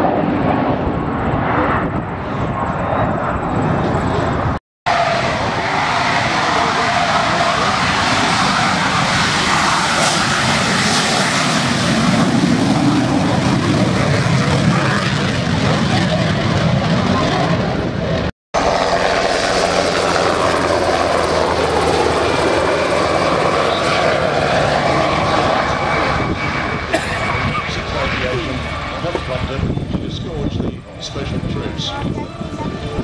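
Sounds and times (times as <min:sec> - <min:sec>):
helicopter rotor drone: 0:00.0 - 0:33.0
jet engine at high power: 0:00.0 - 0:33.0.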